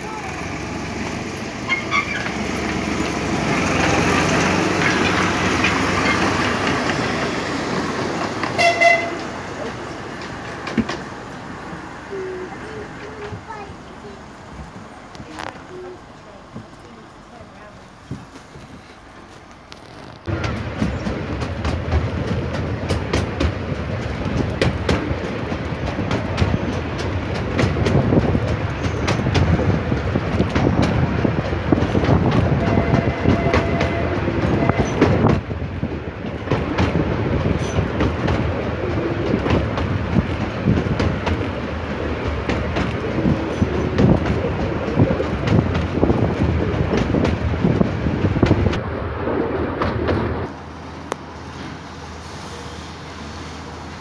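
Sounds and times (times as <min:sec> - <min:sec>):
wheels clicking over rail joints: 0:00.0 - 0:48.8
train wheels rumbling: 0:00.0 - 0:54.0.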